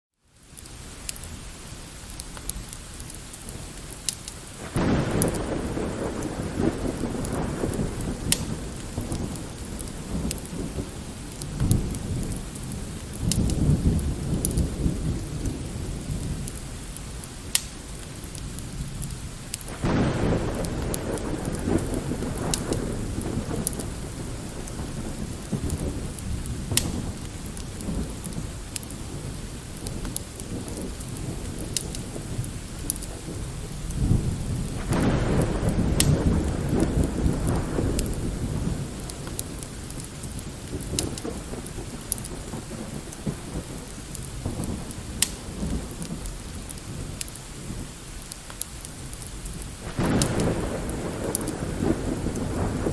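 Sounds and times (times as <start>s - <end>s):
light rain: 0.1s - 52.9s
wood fire crackling: 0.3s - 52.9s
distant rolling thunder: 4.6s - 16.9s, 18.3s - 48.3s, 48.9s - 52.9s.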